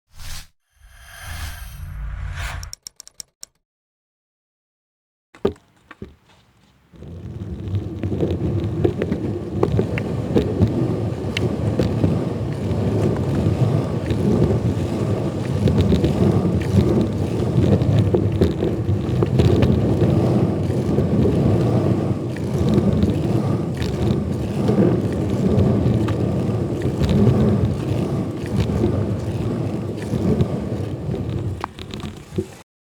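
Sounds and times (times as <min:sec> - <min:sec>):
skateboard wheels rumbling on concrete: 0:05.4 - 0:32.6.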